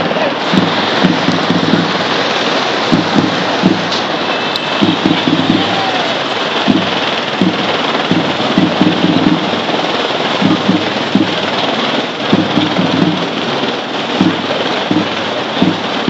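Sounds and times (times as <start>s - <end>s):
low rumbling bursts: 0.0s - 16.0s
street noise hiss: 0.0s - 16.0s.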